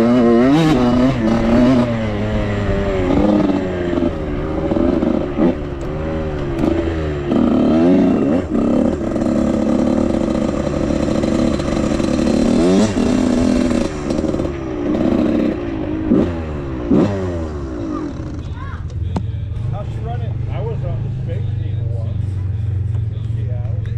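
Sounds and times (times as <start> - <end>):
dirt bike engine revving: 0.0 - 23.5.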